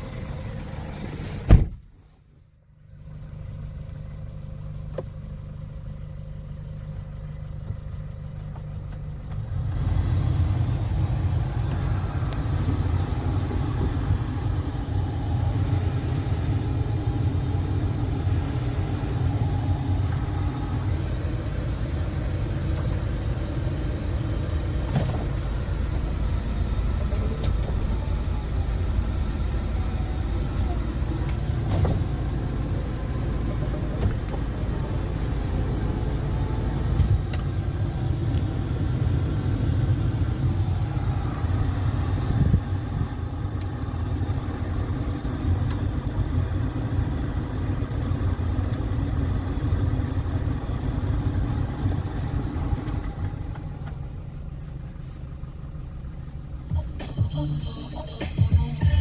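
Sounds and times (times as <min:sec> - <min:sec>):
road noise: 0:00.0 - 0:59.0
truck engine rumbling: 0:00.0 - 0:59.0.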